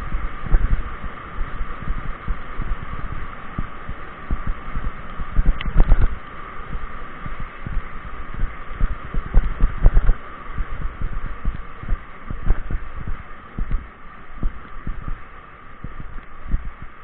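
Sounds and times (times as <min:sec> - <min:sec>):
tyres and wind rushing: 0:00.0 - 0:17.0.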